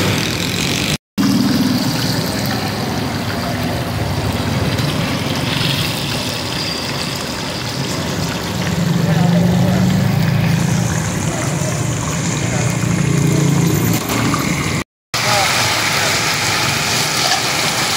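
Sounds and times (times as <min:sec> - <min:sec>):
oil sizzling and bubbling: 0:00.0 - 0:17.9.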